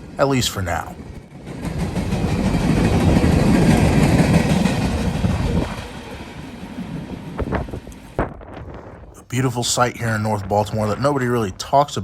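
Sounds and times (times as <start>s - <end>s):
train passing on tracks: 0.0s - 12.0s.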